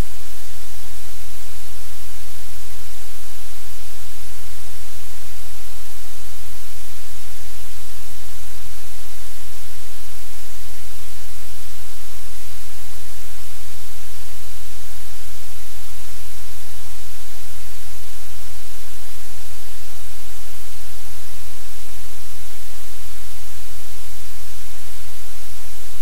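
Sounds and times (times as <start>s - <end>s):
electrical static hiss: 0.0s - 26.0s.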